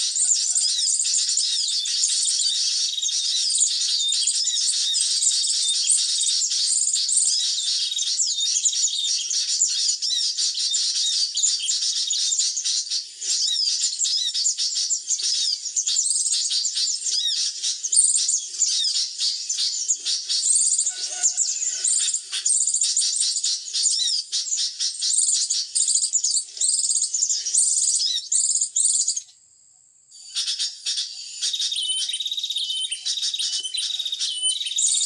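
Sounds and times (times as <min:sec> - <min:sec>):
sunbirds chirping and twittering: 0:00.0 - 0:35.0.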